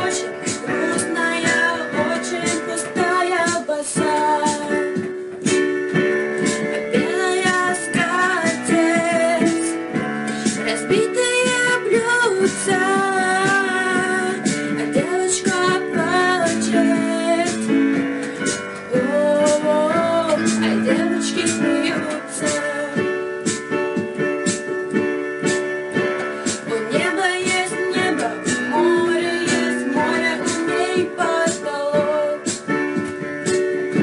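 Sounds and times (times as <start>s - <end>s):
woman singing: 0.0s - 5.2s, 6.7s - 23.6s, 26.5s - 33.1s
instrumental accompaniment: 0.0s - 34.0s.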